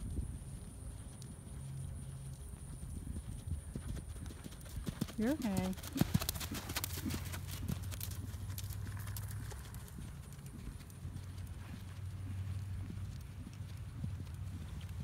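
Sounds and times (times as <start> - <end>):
horse hoofbeats on sand: 0.0 - 15.0
low steady hum: 0.0 - 15.0.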